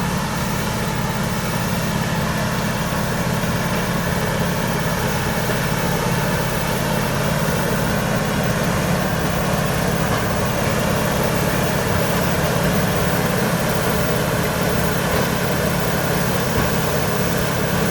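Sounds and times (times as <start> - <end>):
heavy diesel engine droning: 0.0 - 17.9.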